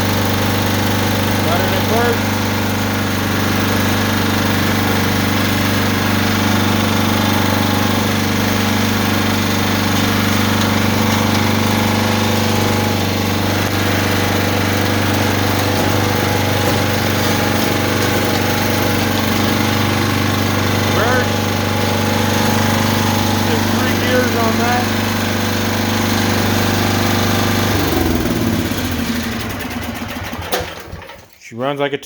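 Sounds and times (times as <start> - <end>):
snowblower engine running: 0.0 - 31.4.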